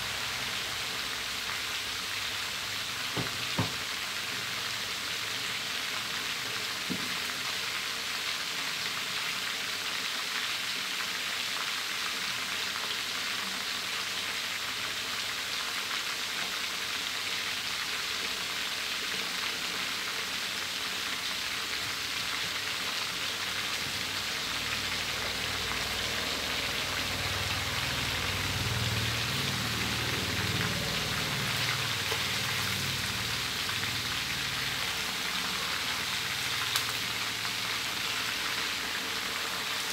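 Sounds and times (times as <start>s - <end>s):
oil sizzling in a wok: 0.0s - 39.9s.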